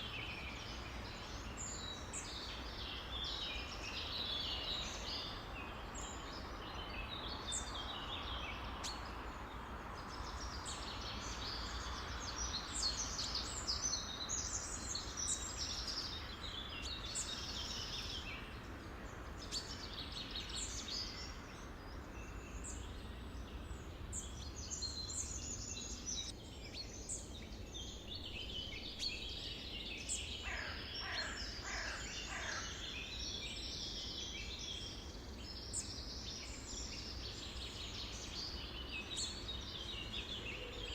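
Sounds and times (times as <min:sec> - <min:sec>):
low background noise: 0:00.0 - 0:40.9
songbirds chirping and singing: 0:00.0 - 0:40.9.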